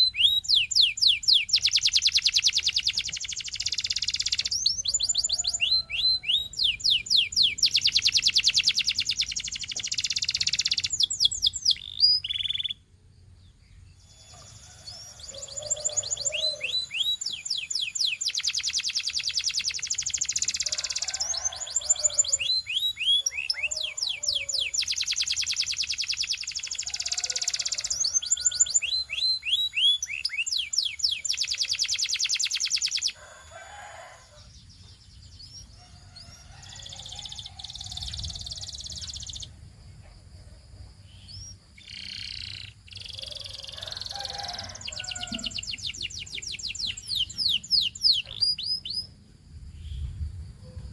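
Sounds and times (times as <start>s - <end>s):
canary singing: 0.0s - 12.8s, 13.9s - 34.5s, 35.3s - 39.5s, 41.2s - 49.2s.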